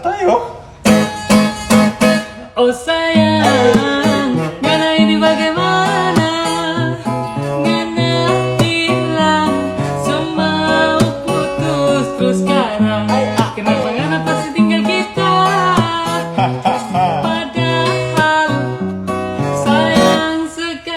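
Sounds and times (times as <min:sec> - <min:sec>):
song with plucked guitar and bass: 0:00.6 - 0:20.8.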